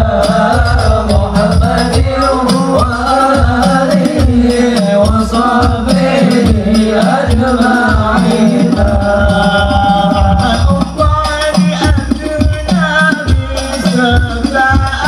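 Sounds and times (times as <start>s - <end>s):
devotional singing: 0.0s - 15.0s
hand drums: 0.0s - 15.0s
jingling percussion: 0.0s - 15.0s.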